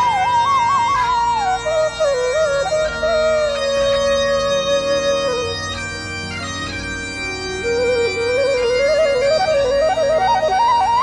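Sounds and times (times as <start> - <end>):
steady drone: 0.0 - 11.0
wind instrument melody: 0.0 - 11.0.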